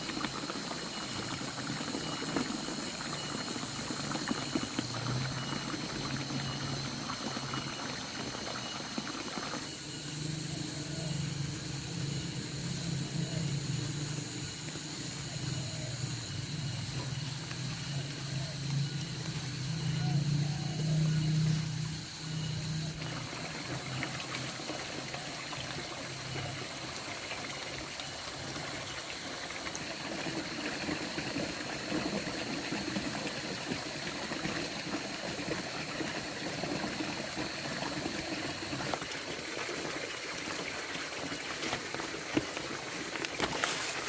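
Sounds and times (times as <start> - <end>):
high-pitched insect drone: 0.0 - 40.8.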